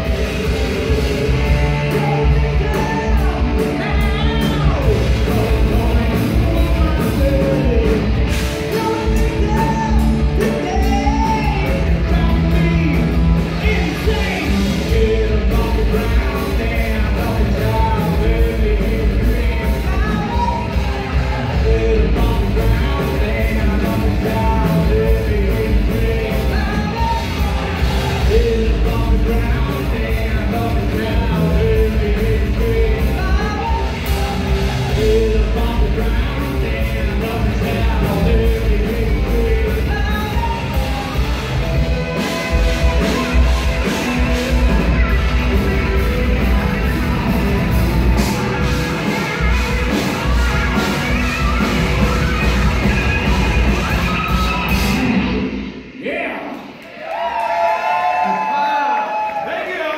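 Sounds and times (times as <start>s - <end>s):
electric guitars: 0.0s - 56.0s
bass guitar: 0.0s - 56.2s
drum kit: 0.0s - 56.7s
singer singing and yelling: 0.0s - 59.9s.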